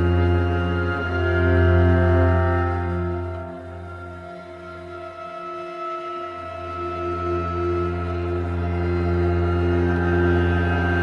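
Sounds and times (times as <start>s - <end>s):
slow ambient music with drone: 0.0s - 11.0s.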